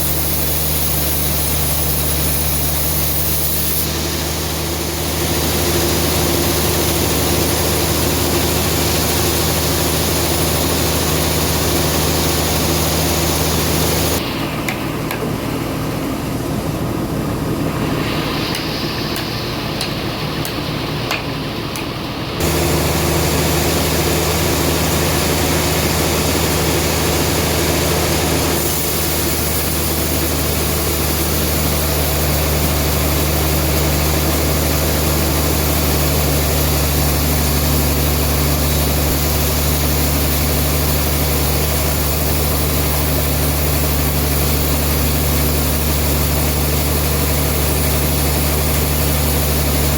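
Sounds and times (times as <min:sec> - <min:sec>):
band sawmill humming: 0:00.0 - 0:49.9.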